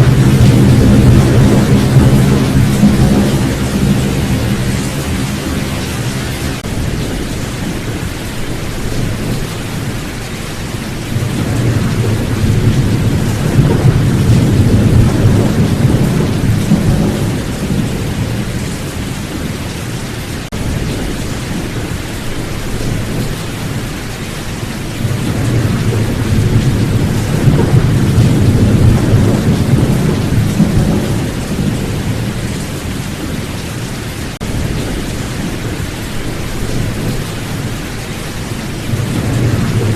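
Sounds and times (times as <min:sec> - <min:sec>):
rolling thunder: 0:00.0 - 0:19.6, 0:24.9 - 0:39.9
heavy rain: 0:00.0 - 0:39.9.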